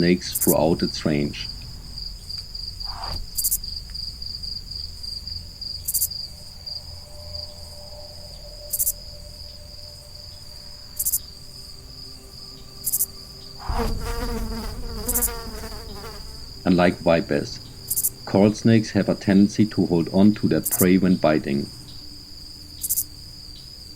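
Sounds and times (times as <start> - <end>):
low pitched hum: 0.0 - 22.8
insects chirring trill: 0.0 - 23.9.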